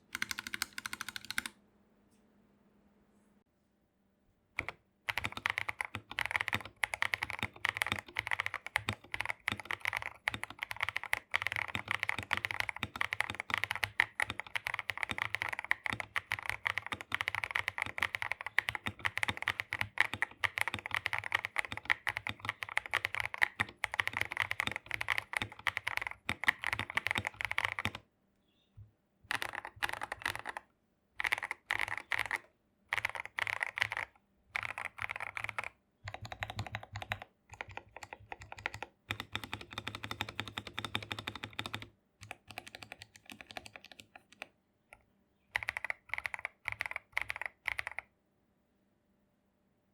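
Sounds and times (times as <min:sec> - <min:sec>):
fast typing on mechanical keyboard: 0:00.0 - 0:01.5, 0:04.6 - 0:28.0, 0:29.3 - 0:30.6, 0:31.2 - 0:44.5, 0:45.5 - 0:48.1.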